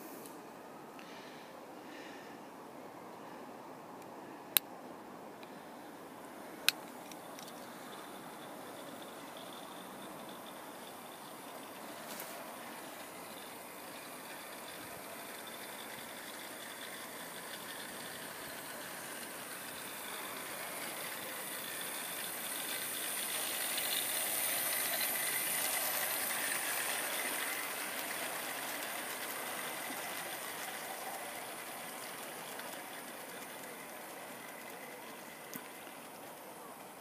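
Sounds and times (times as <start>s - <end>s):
model train wheels rattling on rails: 5.6s - 37.0s.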